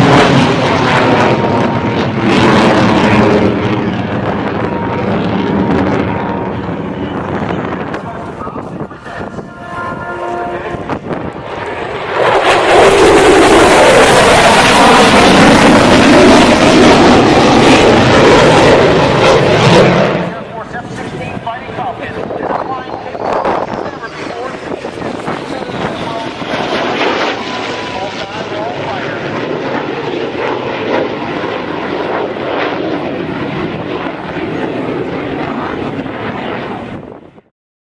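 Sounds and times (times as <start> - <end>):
aircraft engine roar: 0.0 - 37.5.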